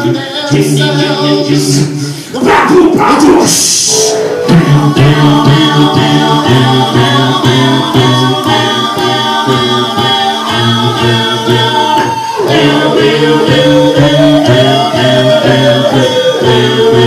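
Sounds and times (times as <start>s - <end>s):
a cappella group singing: 0.0s - 17.0s
woman singing lead: 0.0s - 17.0s
sung rhythmic bass line: 2.7s - 17.0s.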